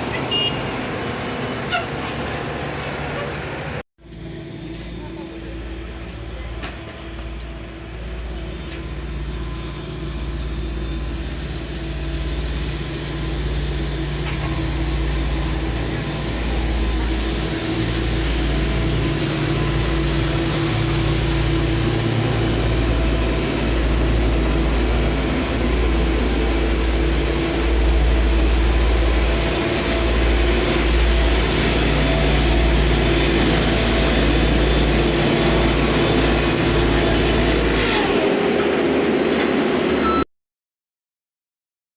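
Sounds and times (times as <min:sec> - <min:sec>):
engine deep rumble: 0:00.0 - 0:40.2.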